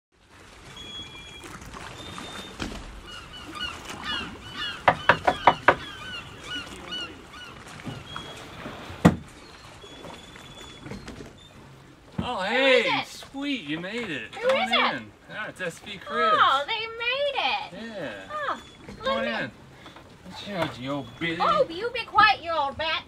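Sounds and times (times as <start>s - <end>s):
birds chirping: 0.8s - 23.0s.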